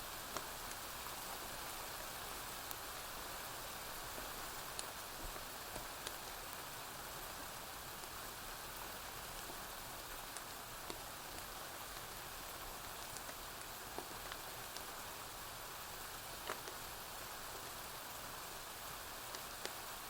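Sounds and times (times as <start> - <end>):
steady rain hissing: 0.0 - 20.0.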